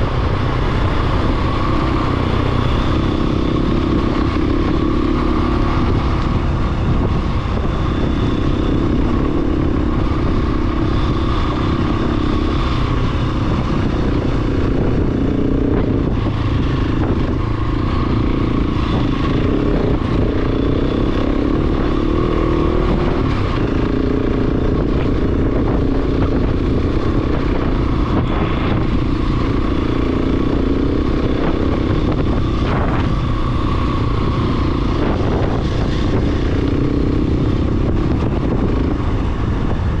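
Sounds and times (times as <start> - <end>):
motorcycle engine running: 0.0 - 40.0
wind rumble: 0.0 - 40.0.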